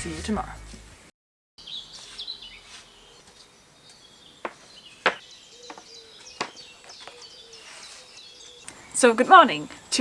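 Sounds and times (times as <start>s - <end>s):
birds chirping: 1.6s - 10.0s.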